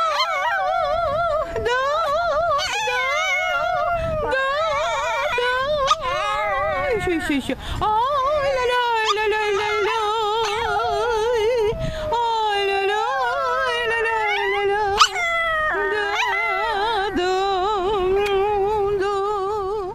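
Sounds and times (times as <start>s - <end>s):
small dog howling: 0.0s - 7.3s, 7.9s - 19.2s
woman howling: 0.0s - 19.7s.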